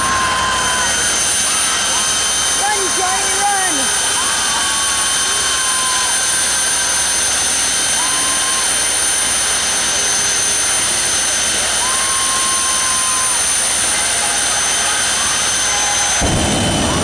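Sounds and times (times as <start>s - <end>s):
jet turbine engine roaring: 0.0s - 17.0s.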